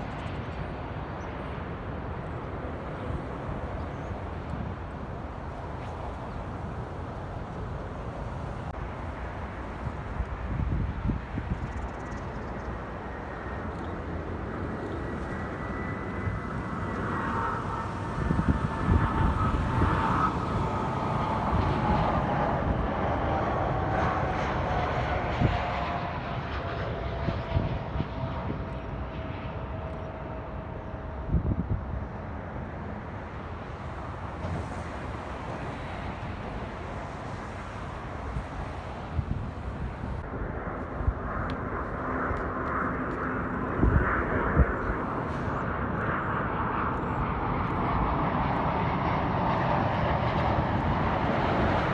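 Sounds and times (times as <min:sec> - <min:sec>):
jet airliner engines whining: 0:00.0 - 0:51.9
wind buffeting microphone: 0:00.0 - 0:51.9.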